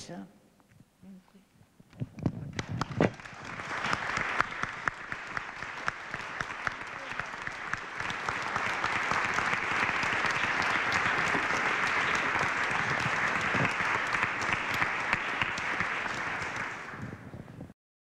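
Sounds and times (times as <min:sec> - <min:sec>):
audience applause: 0:02.5 - 0:17.3.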